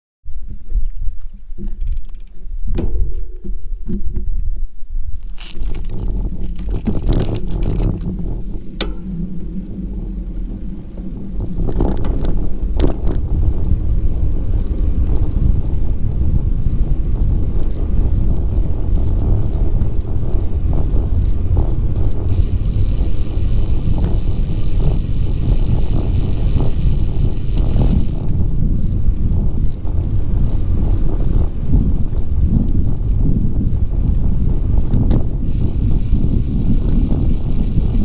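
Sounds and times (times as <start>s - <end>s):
wind buffeting microphone: 0.3s - 38.0s
bicycle rolling on pavement: 1.6s - 2.6s, 3.7s - 38.0s.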